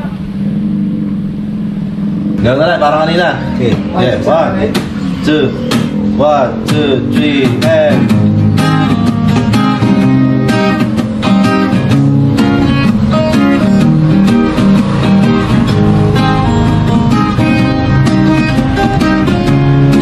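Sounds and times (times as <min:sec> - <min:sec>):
plucked and strummed guitar music: 0:00.0 - 0:20.0.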